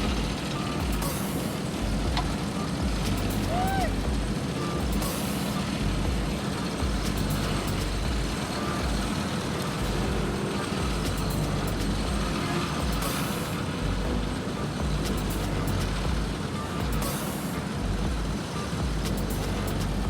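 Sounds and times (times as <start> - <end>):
diesel machinery engine drone: 0.0 - 20.0.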